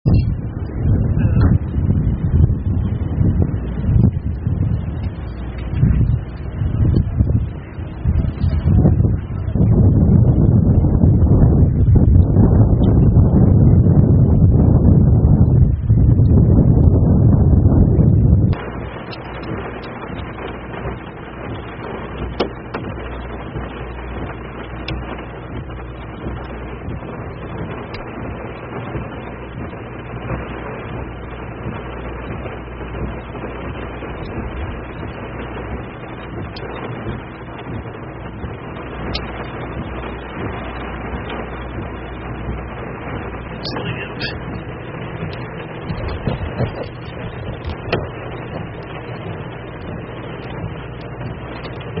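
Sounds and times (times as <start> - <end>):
low engine rumble: 0.0 - 52.0
road and rain noise in car: 0.0 - 52.0.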